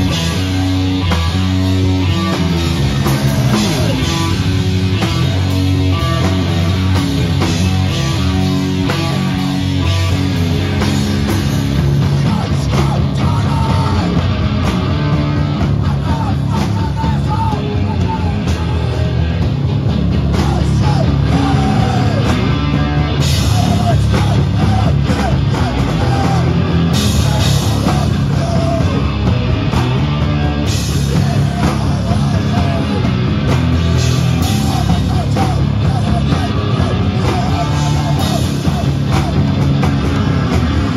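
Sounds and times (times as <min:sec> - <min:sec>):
distorted electric guitars: 0:00.0 - 0:40.9
drum kit: 0:00.0 - 0:40.9.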